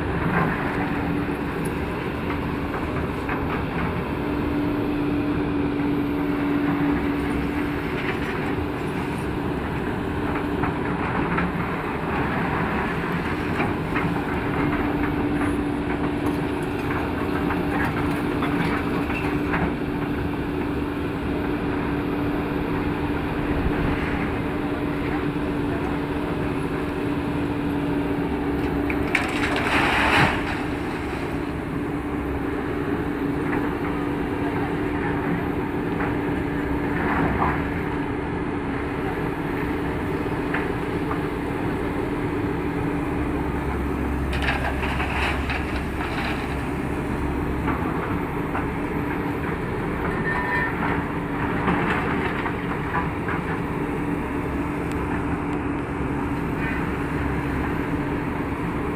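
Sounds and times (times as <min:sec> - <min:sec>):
excavator diesel engine: 0:00.0 - 0:58.9.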